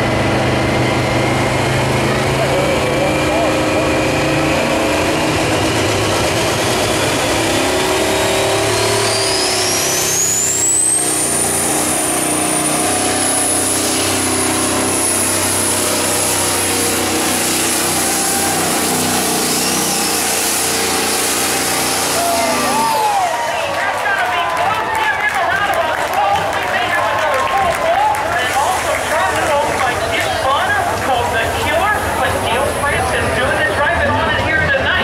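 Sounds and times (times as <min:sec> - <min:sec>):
high turbo whine: 0:00.0 - 0:24.3, 0:28.2 - 0:35.0
diesel engine at full throttle: 0:00.0 - 0:35.0.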